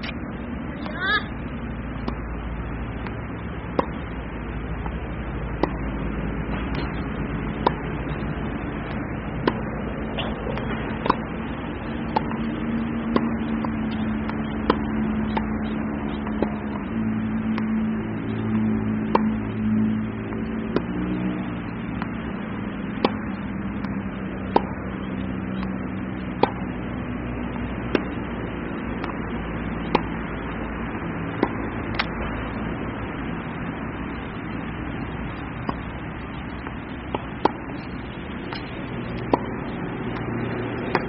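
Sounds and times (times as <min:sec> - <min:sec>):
racket hitting tennis ball: 0:00.0 - 0:33.7, 0:34.5 - 0:41.0
steady low hum: 0:00.0 - 0:41.0.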